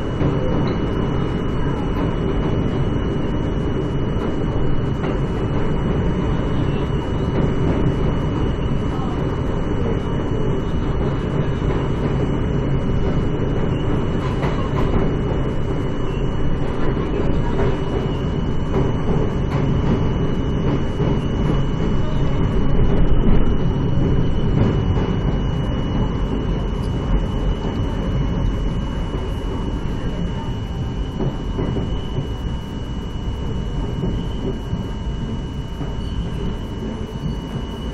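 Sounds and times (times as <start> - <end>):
subway train wheels and motors: 0.0 - 37.9
thin high whine: 0.0 - 37.9.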